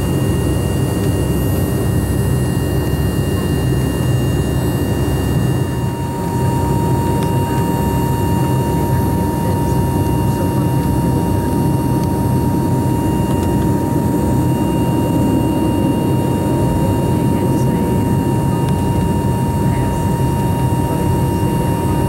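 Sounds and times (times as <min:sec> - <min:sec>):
jet engine whine: 0:00.0 - 0:22.0
jet engines rumbling in cabin: 0:00.0 - 0:22.0.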